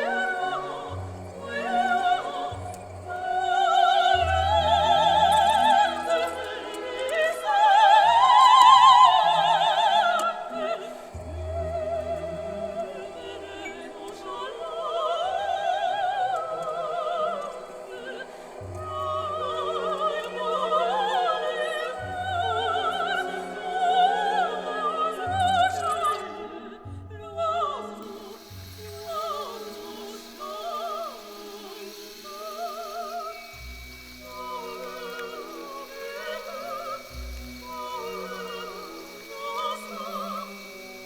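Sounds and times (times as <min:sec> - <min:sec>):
operatic singing: 0:00.0 - 0:41.0.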